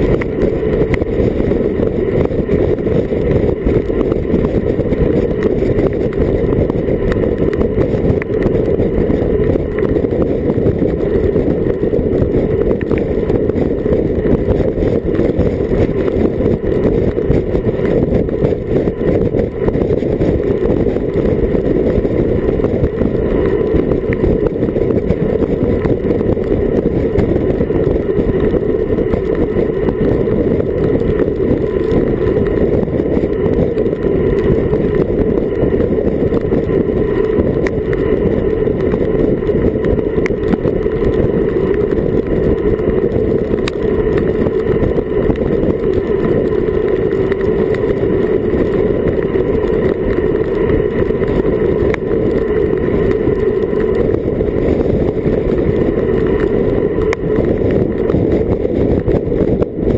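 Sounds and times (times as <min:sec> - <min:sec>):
wind roaring over microphone: 0:00.0 - 0:59.9.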